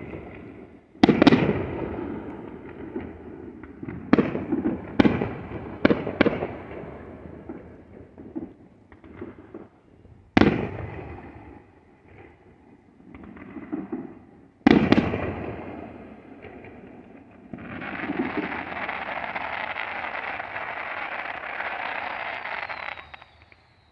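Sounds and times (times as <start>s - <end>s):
fireworks bangs: 0.0s - 12.4s, 13.0s - 23.9s
fireworks popping and crackling: 0.0s - 12.4s, 13.0s - 23.9s.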